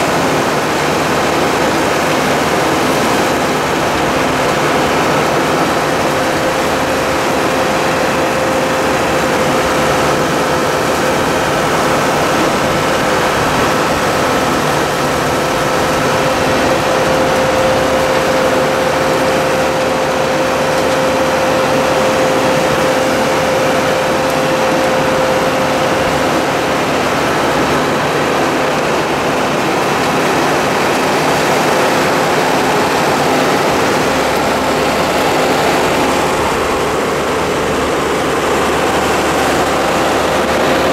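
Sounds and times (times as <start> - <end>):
steady mechanical whine: 0.0 - 40.9
tractor and harvester running: 0.0 - 40.9.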